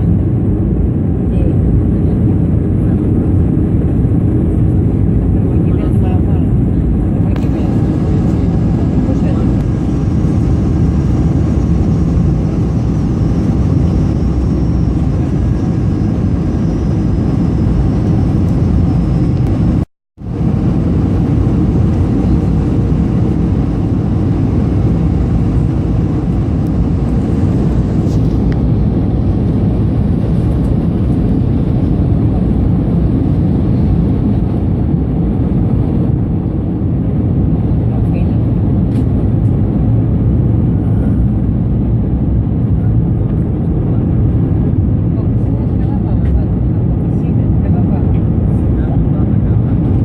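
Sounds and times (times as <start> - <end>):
airliner cabin rumble: 0.0 - 50.0.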